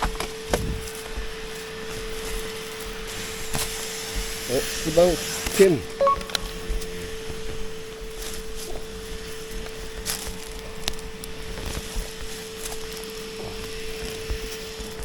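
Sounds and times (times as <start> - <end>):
papery nest comb cracking: 0.0 - 15.0
steady high hum: 0.6 - 15.0.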